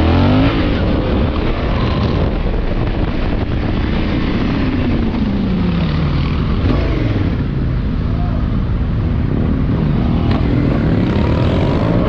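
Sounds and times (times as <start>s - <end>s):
motorcycle engine accelerating: 0.0s - 7.9s, 9.0s - 12.0s
wind rushing over microphone: 0.0s - 12.0s.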